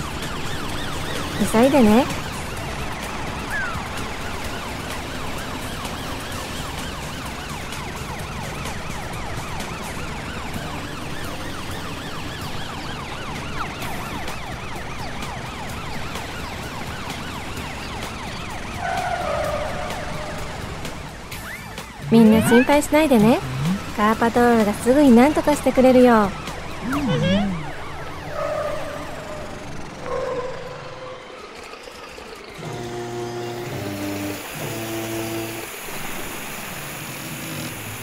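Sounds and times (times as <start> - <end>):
cartoon sirens wailing: 0.0 - 35.0
vehicle noise: 0.0 - 38.0.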